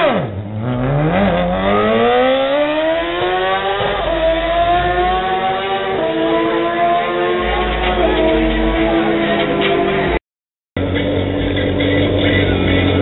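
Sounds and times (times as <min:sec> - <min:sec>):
motorcycle engine accelerating hard: 0:00.0 - 0:10.2, 0:10.8 - 0:13.0.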